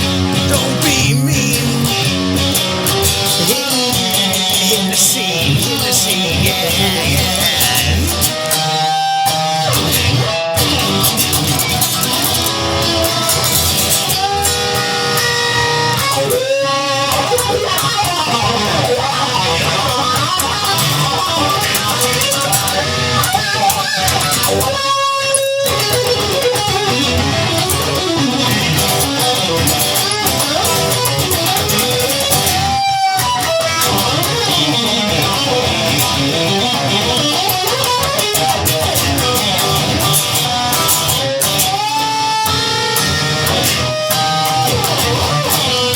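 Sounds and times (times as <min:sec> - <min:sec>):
blues-rock band playing: 0:00.0 - 0:45.9
electric guitar with bending notes: 0:00.0 - 0:45.9.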